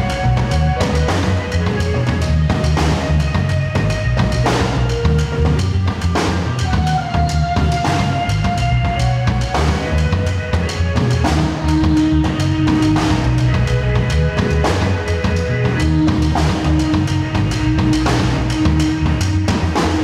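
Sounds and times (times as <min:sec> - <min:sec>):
drum kit beat: 0:00.0 - 0:20.0
electric bass: 0:00.0 - 0:20.0
held keyboard notes: 0:00.0 - 0:20.0.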